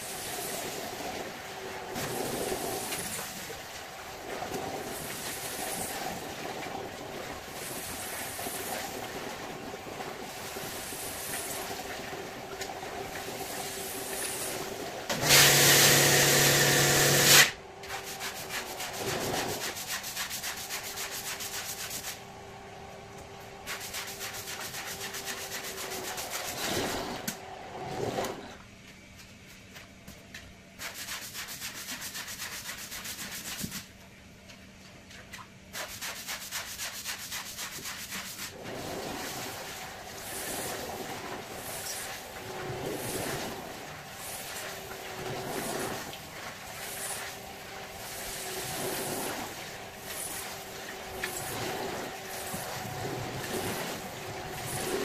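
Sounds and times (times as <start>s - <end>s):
hiss with low hum: 0.0s - 55.0s.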